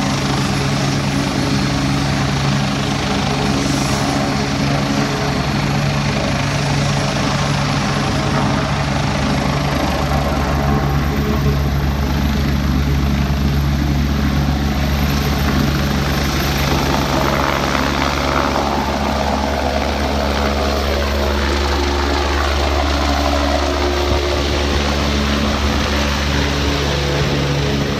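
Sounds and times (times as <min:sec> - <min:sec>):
helicopter rotor and turbine: 0:00.0 - 0:27.9.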